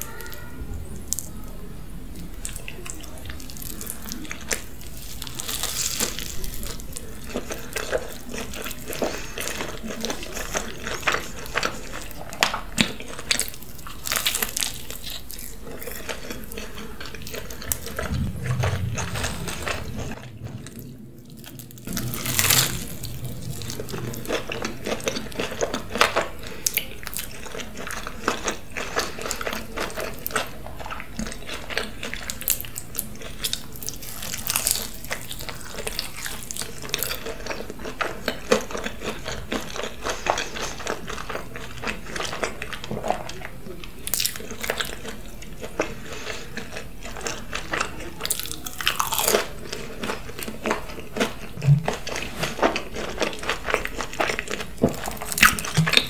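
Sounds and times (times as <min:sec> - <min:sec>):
wet chewing with mouth clicks: 0:02.1 - 0:56.0.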